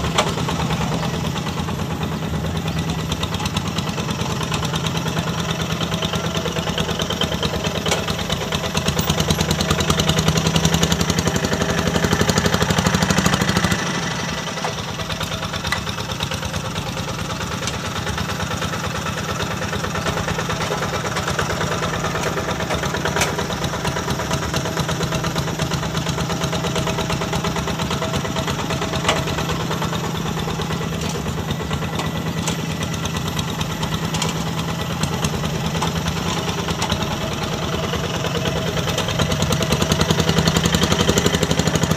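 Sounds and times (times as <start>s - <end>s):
diesel tractor engine throbbing: 0.0s - 41.9s.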